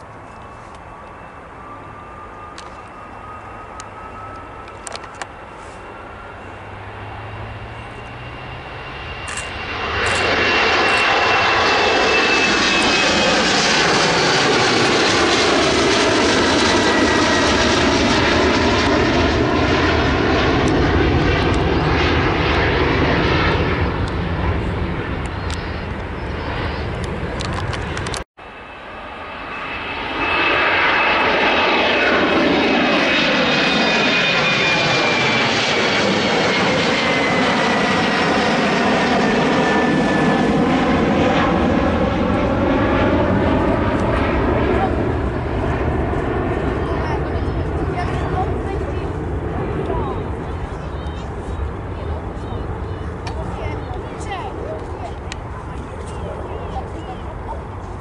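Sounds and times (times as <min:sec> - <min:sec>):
jet airliner taking off: 0:00.0 - 0:58.0.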